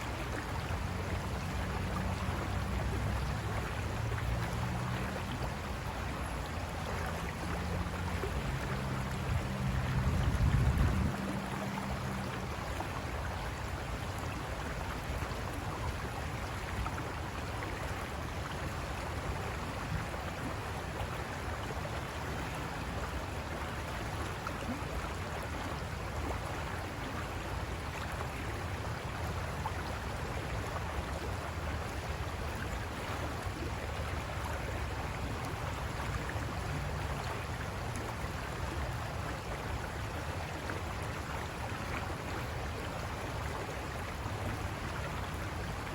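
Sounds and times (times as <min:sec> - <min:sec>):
river water rushing over rocks: 0:00.0 - 0:45.9.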